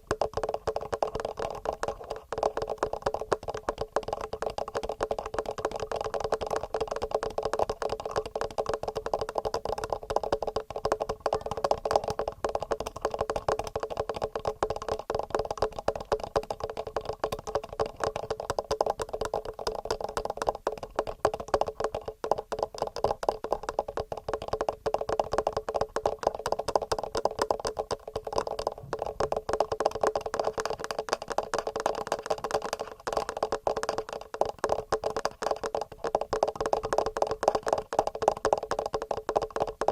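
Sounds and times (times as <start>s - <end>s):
fingernail tapping on microphone: 0.0s - 39.9s.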